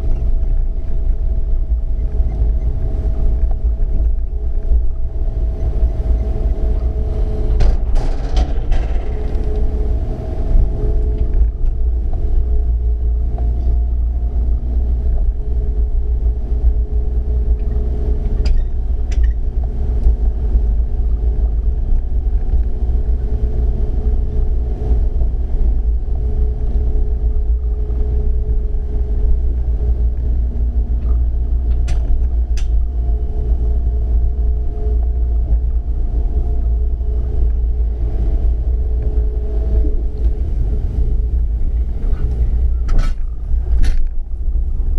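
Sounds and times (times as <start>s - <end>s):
boat engine humming: 0.0s - 44.9s.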